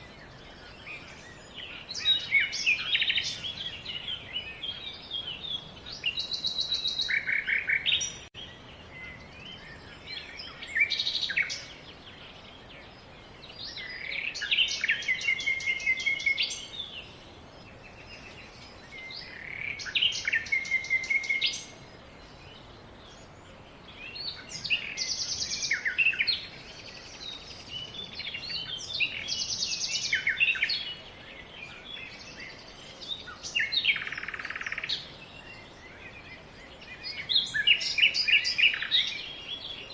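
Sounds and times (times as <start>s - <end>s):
quieter bird chirps: 0.0s - 39.9s
songbird chirps and trills: 0.0s - 39.9s.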